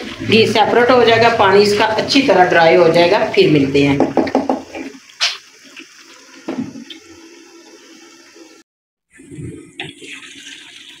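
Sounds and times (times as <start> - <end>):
food simmering and bubbling: 0.0 - 11.0.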